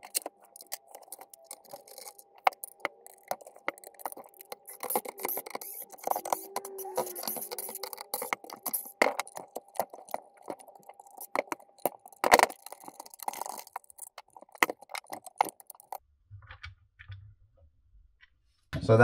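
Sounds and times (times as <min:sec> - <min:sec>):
screwdriver turning screws: 0:00.0 - 0:16.0.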